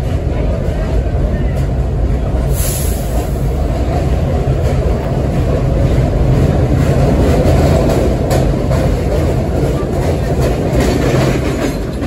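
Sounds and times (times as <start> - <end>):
subway train rumbling past: 0.0 - 12.0.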